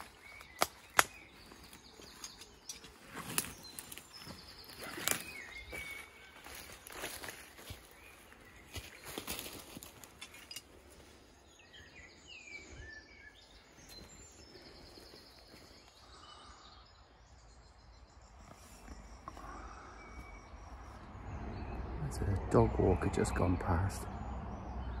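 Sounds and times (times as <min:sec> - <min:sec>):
songbird chirping and trilling: 0:00.0 - 0:25.0.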